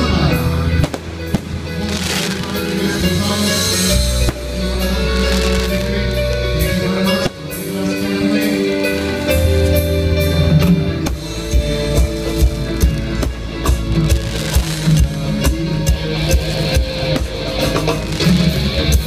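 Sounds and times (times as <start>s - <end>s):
music with held notes and bass: 0.0s - 19.0s.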